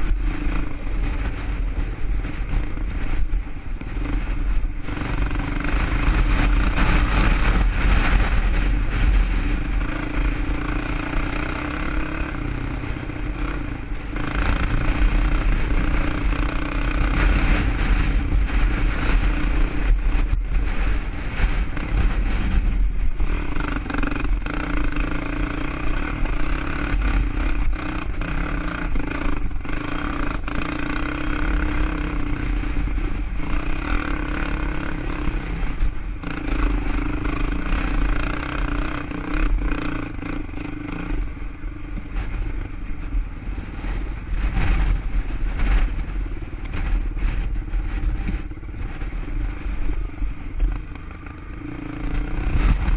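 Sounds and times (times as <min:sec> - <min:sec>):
low rumble: 0:00.0 - 0:52.9
quad bike engine running: 0:00.0 - 0:52.9.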